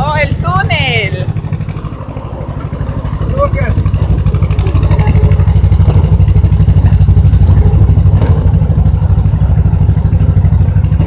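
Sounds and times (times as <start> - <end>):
train engine throbbing: 0.0 - 11.0.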